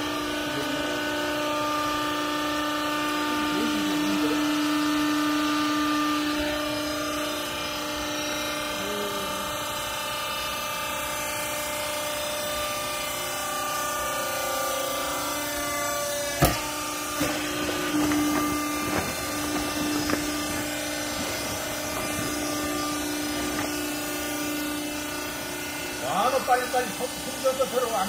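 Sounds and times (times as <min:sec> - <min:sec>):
hydraulic power unit humming: 0:00.0 - 0:28.0.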